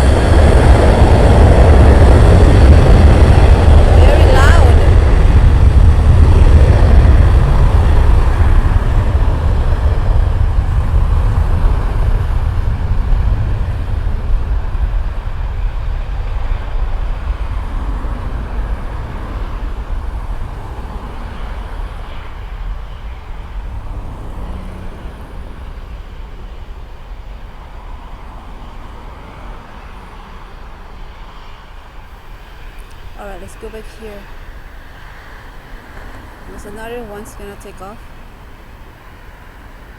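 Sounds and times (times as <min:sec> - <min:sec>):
jet airliner engines roaring: 0:00.0 - 0:39.9.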